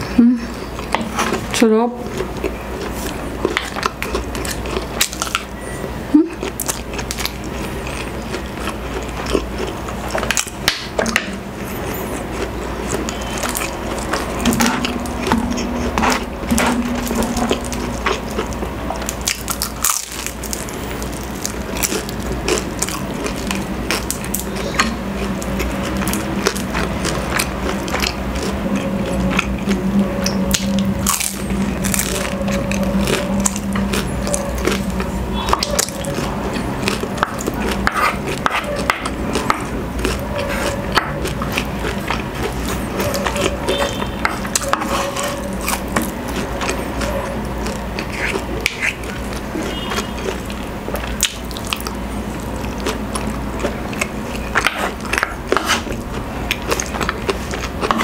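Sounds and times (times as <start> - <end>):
crunchy chewing of fried food: 0.0 - 58.0.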